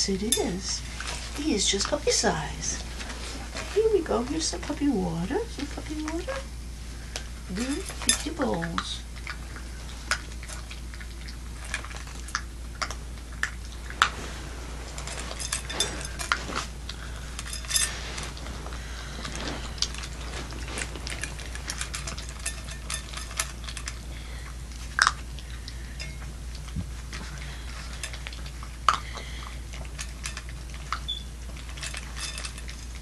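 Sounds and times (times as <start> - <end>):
low hum: 0.0 - 33.0
puppy eating from metal bowl: 0.0 - 33.0.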